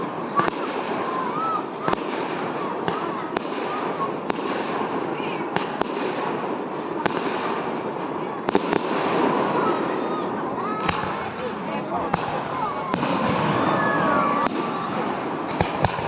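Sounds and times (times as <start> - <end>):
background noise: 0.0 - 16.0
fireworks bursting: 0.0 - 16.0.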